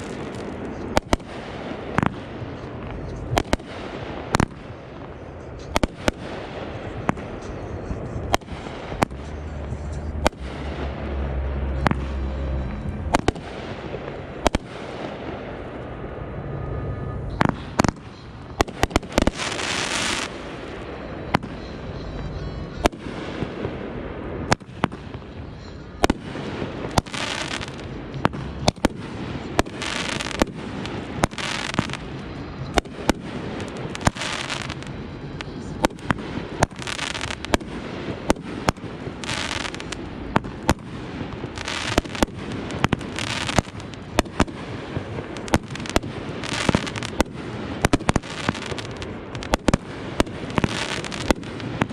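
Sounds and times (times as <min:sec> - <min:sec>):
fireworks crackling hiss: 0:00.0 - 0:15.8, 0:17.3 - 0:23.8, 0:24.4 - 0:51.9
fireworks bangs: 0:00.0 - 0:51.9.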